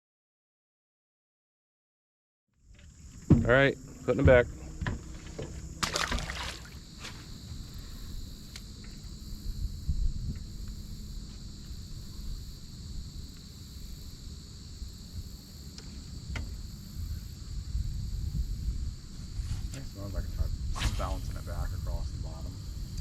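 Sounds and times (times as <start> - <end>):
insects trilling: 2.6 - 23.0.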